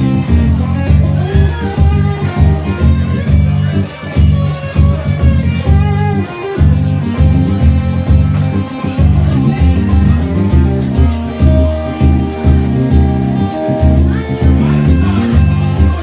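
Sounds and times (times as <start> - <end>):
bass groove: 0.0 - 16.0
electric guitar lines: 0.0 - 16.0
steady drum beat: 0.0 - 16.0.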